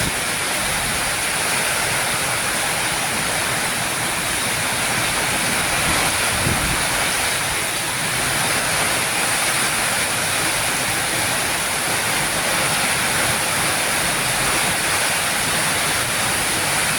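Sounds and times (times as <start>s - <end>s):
heavy rain pouring: 0.0s - 16.9s.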